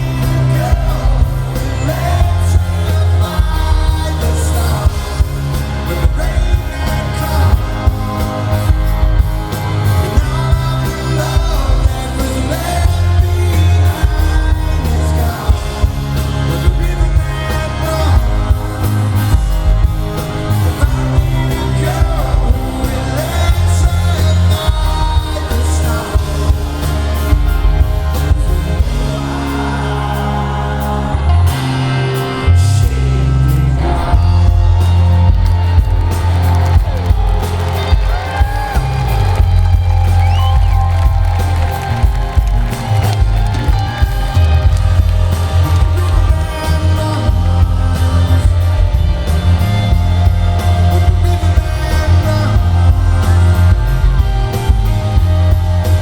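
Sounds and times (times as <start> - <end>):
booming bass: 0.0 - 56.0
live rock band: 0.0 - 56.0
person singing: 0.0 - 56.0.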